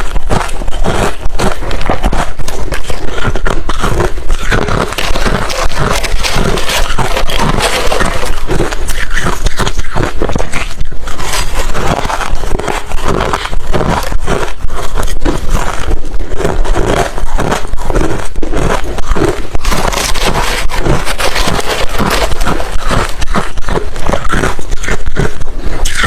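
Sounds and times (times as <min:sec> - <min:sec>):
chewing crushed ice: 0:00.0 - 0:26.0.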